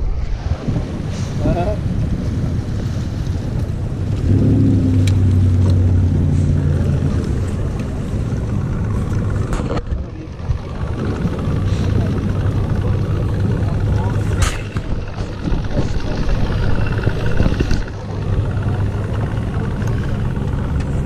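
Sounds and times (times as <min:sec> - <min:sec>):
rumbling noise: 0:00.0 - 0:21.0
motor engine humming: 0:01.6 - 0:21.0.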